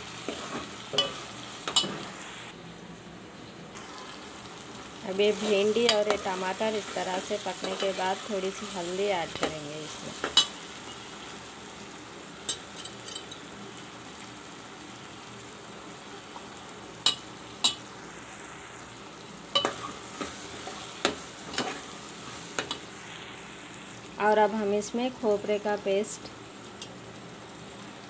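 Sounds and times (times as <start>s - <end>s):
food sizzling in a pot: 0.0s - 28.0s.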